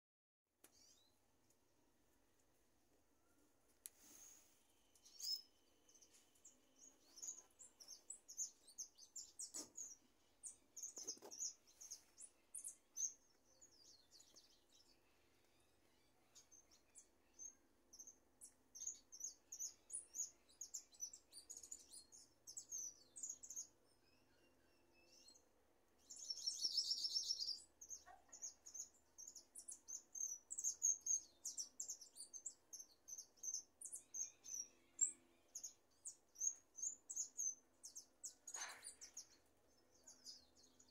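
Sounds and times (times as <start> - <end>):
finch chirping song: 0.6 - 1.2, 3.2 - 40.9.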